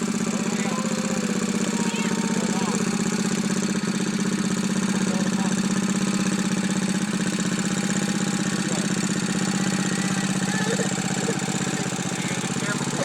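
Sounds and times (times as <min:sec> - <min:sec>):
tractor engine chugging: 0:00.0 - 0:13.0.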